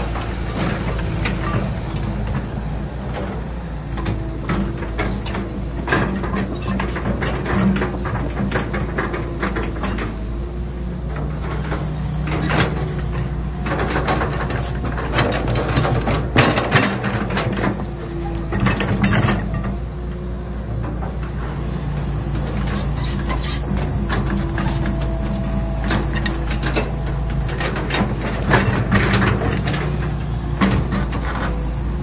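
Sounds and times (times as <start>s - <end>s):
excavator engine running: 0.0s - 32.0s
metallic clanks and knocks: 0.0s - 32.0s.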